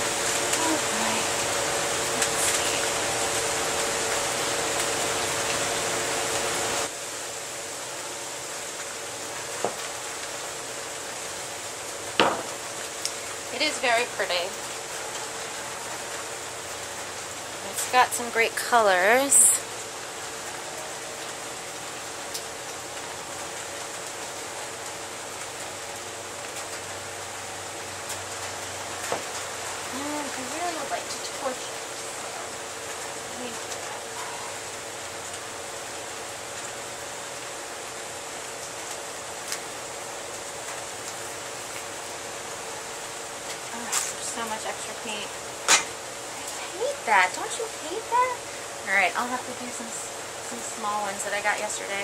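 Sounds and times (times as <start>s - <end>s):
faint hum: 5.5s - 52.0s.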